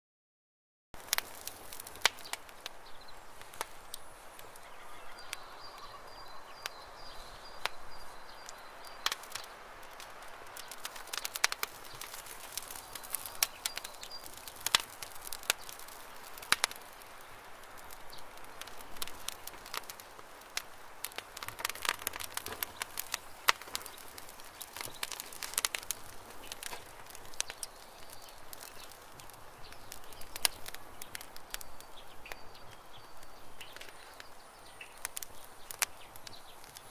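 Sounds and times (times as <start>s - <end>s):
campfire crackling and popping: 1.0s - 36.9s.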